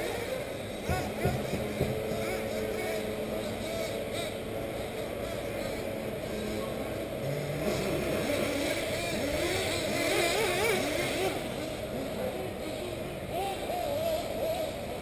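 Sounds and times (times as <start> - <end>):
rc buggy engines whining: 0.0 - 15.0.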